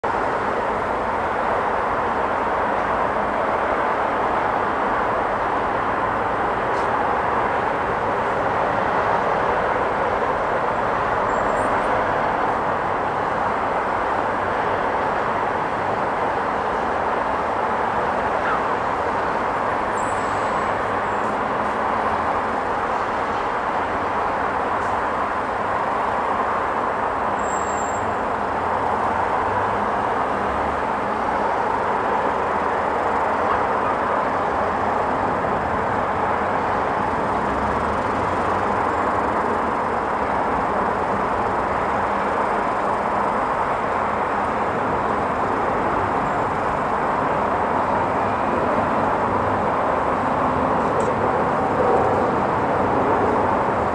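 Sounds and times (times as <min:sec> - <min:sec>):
distant jet engine roar: 0:00.0 - 0:53.9.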